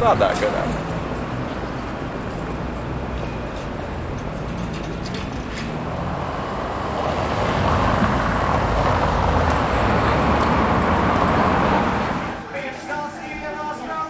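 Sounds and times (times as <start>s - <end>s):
vehicle passing: 0.0s - 13.0s
city street traffic: 0.0s - 14.0s.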